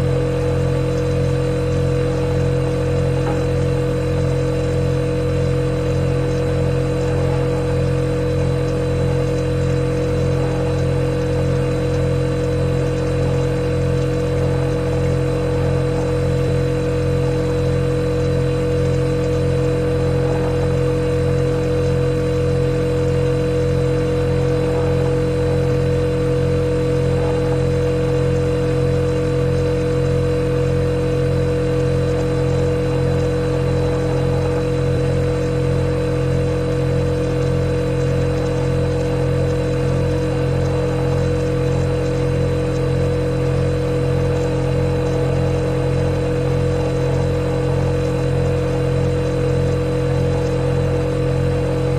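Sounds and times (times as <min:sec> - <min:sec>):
refrigerator humming: 0:00.0 - 0:51.9.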